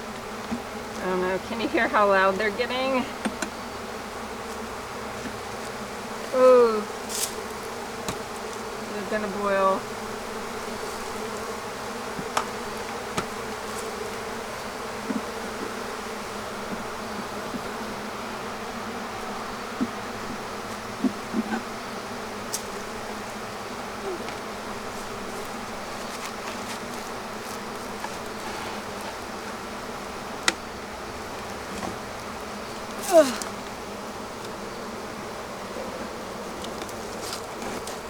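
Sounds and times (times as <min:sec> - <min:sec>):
honeybees buzzing loudly: 0:00.0 - 0:38.0.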